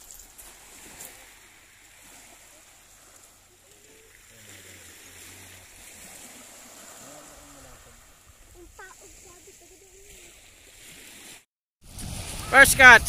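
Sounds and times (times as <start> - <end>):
small waves on pebble shore: 0.0 - 13.0.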